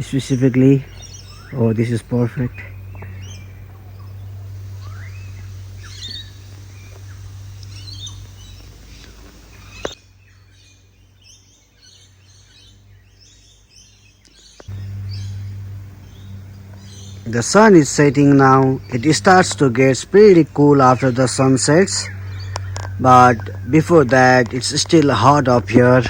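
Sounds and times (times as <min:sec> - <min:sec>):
birds chirping and whistling: 0:00.0 - 0:26.0
steady low hum: 0:00.0 - 0:26.0.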